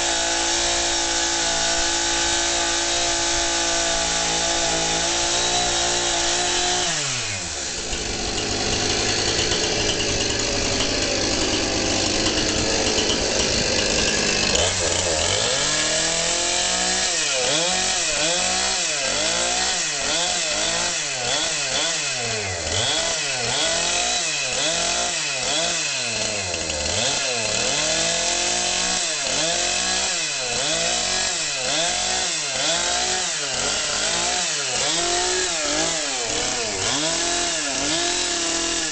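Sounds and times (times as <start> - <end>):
chainsaw cutting straw bale: 0.0 - 38.9.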